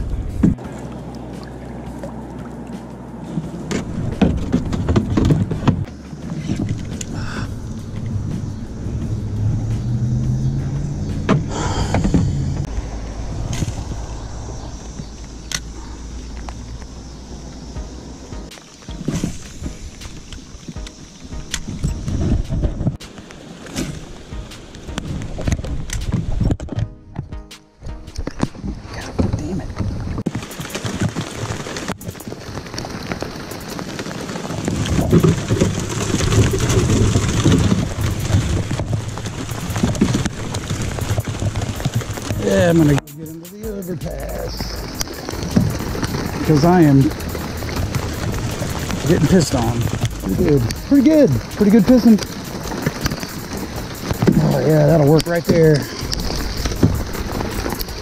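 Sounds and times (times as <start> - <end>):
heavy rain on water: 0.0 - 10.3, 11.4 - 19.8, 22.4 - 26.4, 29.2 - 58.0
low rumble: 0.0 - 23.0, 34.5 - 58.0
vehicle engine drone: 0.0 - 23.0, 28.8 - 58.0
raindrops ticking close by: 0.0 - 26.4, 27.3 - 58.0.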